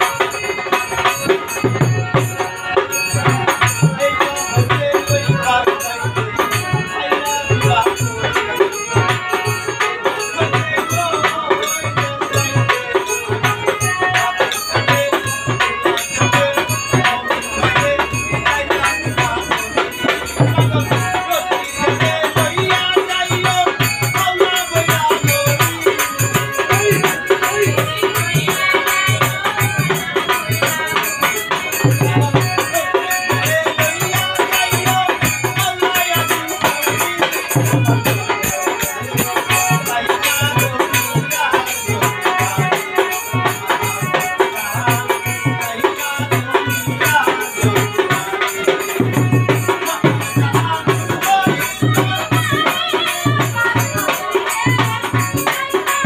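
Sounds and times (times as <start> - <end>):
hand drum: 0.0 - 56.0
harmonium: 0.0 - 56.0
man singing: 0.0 - 56.0
rattling hand percussion: 0.0 - 56.0.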